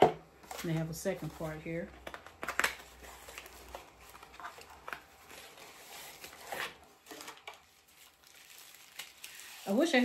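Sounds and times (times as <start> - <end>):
packaging rustling: 0.4 - 10.0.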